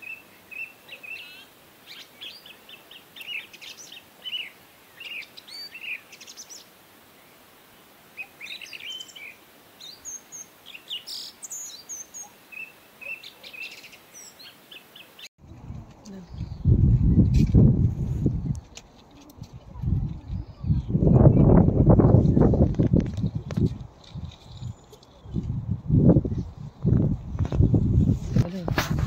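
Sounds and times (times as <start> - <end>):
small birds chirping: 0.0 - 7.4, 8.1 - 15.3, 16.0 - 17.4, 18.6 - 26.6.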